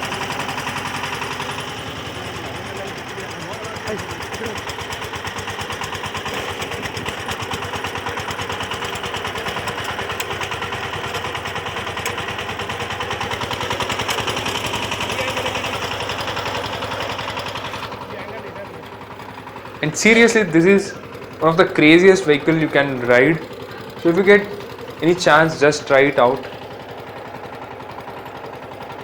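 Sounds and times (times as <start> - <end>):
diesel engine chugging: 0.0 - 29.0.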